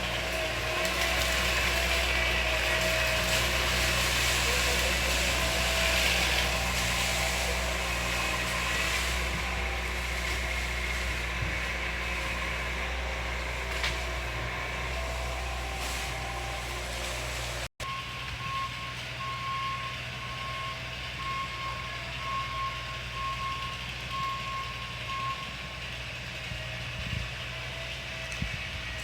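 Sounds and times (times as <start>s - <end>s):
reversing alarm beeping: 0.0s - 25.8s
heavy vehicle engine running: 0.0s - 29.0s.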